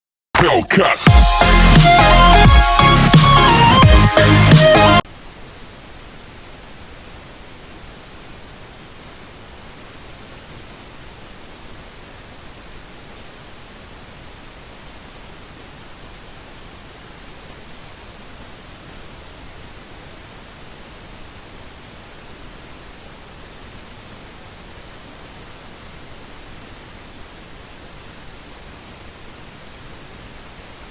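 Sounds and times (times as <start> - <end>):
steady recording hiss: 0.4 - 30.9.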